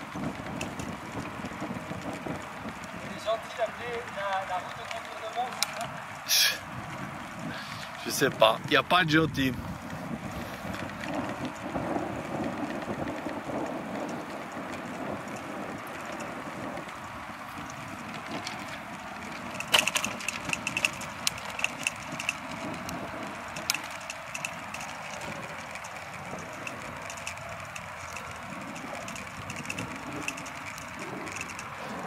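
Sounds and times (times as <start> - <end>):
bicycle clicks and rattles: 0.0 - 32.0
bicycle tyres rumbling on road: 0.0 - 32.0
wind noise: 0.0 - 32.0.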